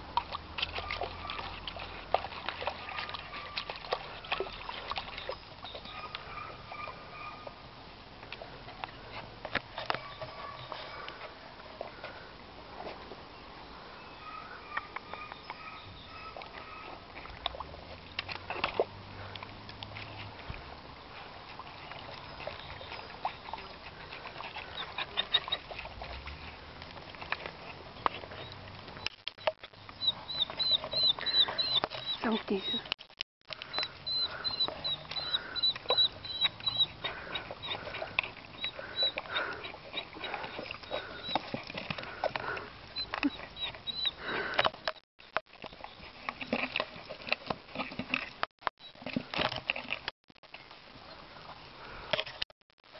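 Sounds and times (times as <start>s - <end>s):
puppy lapping water: 0.0s - 12.3s, 14.3s - 50.1s.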